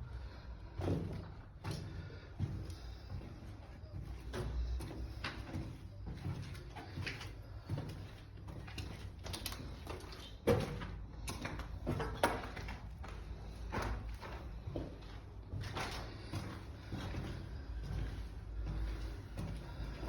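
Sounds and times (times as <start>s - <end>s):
footsteps on concrete floor: 0.0s - 20.0s.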